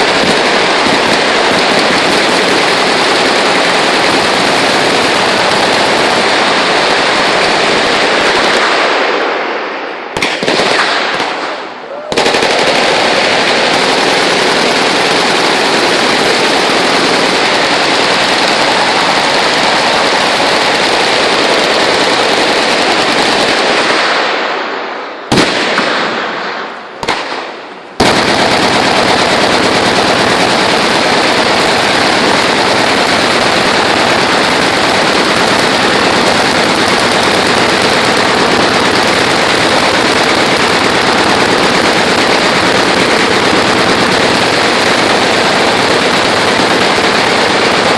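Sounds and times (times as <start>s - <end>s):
machine guns firing: 0.0s - 47.9s.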